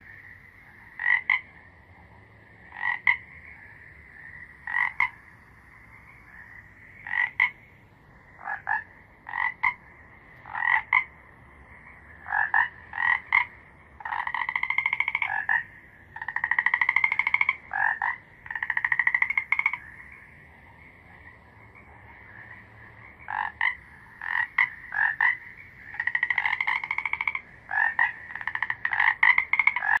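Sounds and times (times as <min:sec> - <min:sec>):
frog pulsed trills: 0:00.0 - 0:30.0
frogs croaking: 0:00.0 - 0:30.0.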